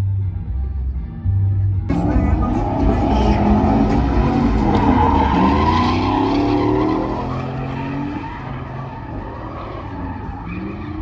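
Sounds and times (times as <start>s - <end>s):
tires squealing: 1.9s - 11.0s
truck engine revving: 1.9s - 11.0s.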